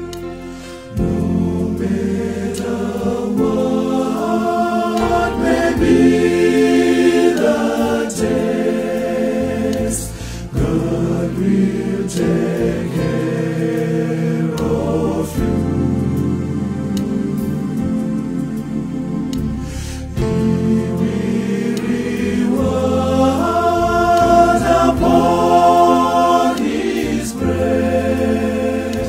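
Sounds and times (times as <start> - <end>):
male choir singing in harmony: 0.0 - 29.0.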